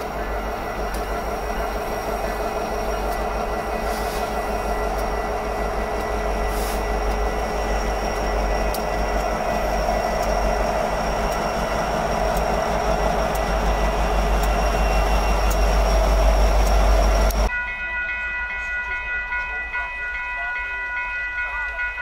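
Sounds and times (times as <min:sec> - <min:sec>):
diesel locomotive engine drone: 0:00.0 - 0:22.0
high steady tones: 0:00.0 - 0:22.0.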